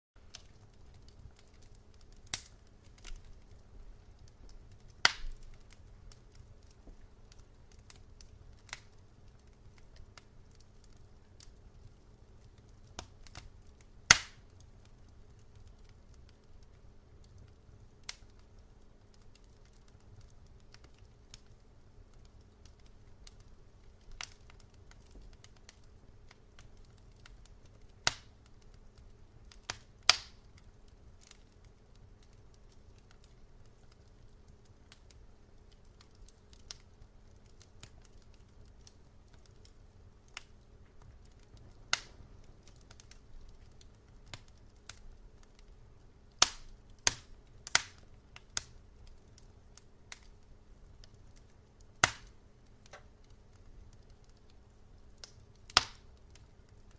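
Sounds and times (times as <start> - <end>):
fire popping: 0.2 - 56.9
wood fire crackling: 0.2 - 56.9.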